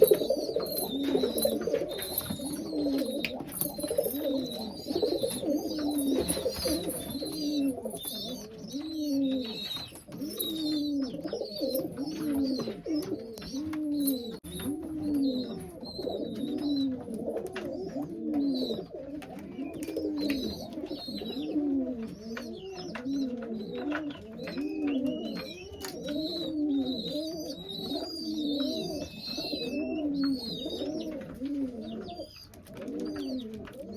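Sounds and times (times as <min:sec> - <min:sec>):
pigeons cooing: 0:00.0 - 0:33.9.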